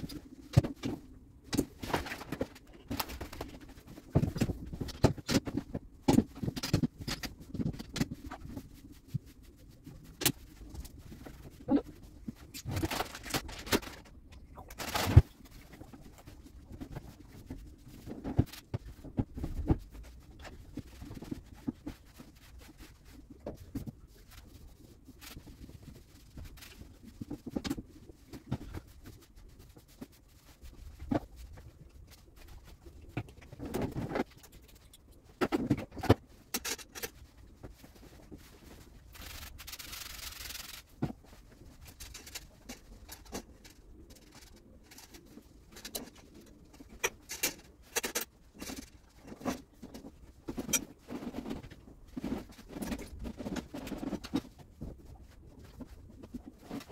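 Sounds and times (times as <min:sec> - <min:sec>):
knocks and clicks of objects handled: 0:00.0 - 0:56.9.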